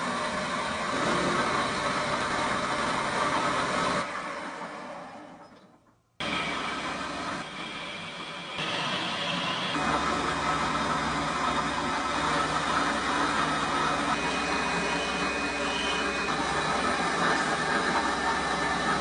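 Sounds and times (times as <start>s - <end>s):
power tool running: 0.0s - 4.6s, 6.2s - 19.0s.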